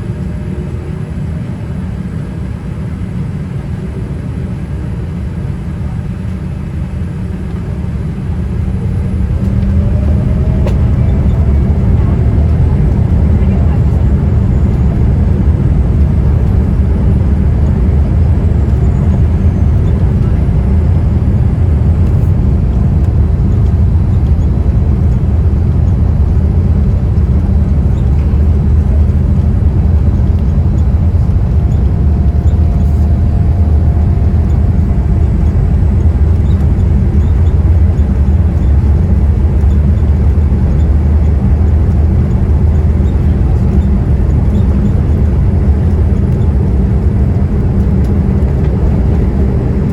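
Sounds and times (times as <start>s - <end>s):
jet engines rumbling: 0.0s - 49.9s.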